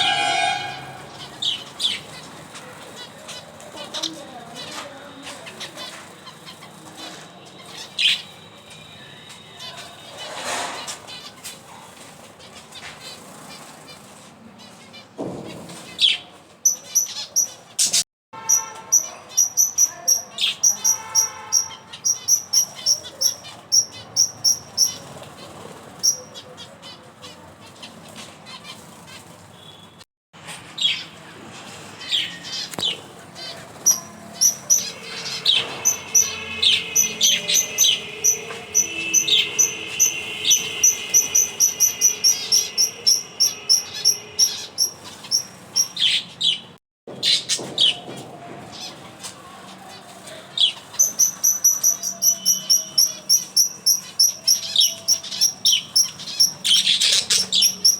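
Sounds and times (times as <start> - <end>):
small birds chirping: 0.0 - 30.0, 32.0 - 48.1, 48.7 - 57.9.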